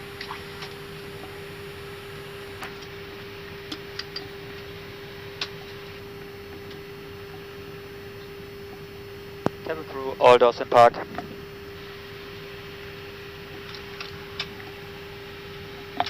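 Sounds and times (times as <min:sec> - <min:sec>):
cockpit hum: 0:00.0 - 0:16.0.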